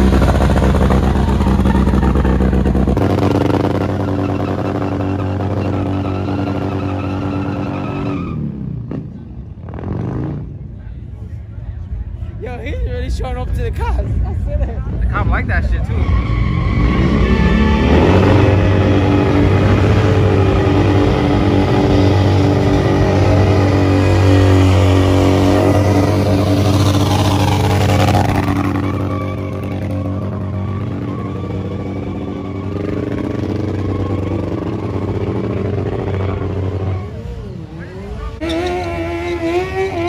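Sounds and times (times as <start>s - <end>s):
motorcycle engine revving: 0.0s - 10.6s, 16.8s - 40.0s.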